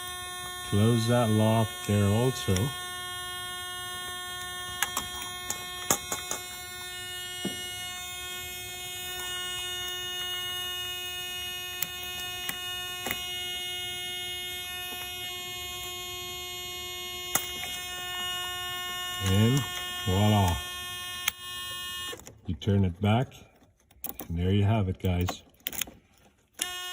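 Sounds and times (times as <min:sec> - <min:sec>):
electrical hum with high tones: 0:00.0 - 0:26.9.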